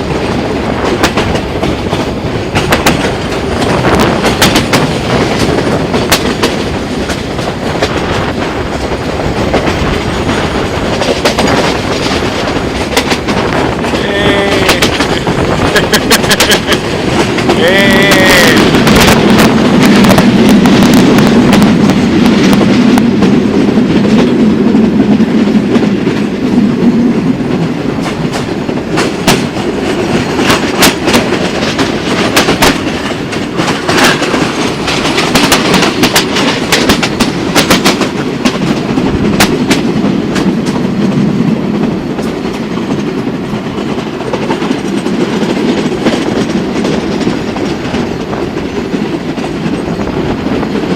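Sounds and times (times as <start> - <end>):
train carriages rumbling: 0.0 - 50.9
wheels clicking over rail joints: 0.0 - 50.9.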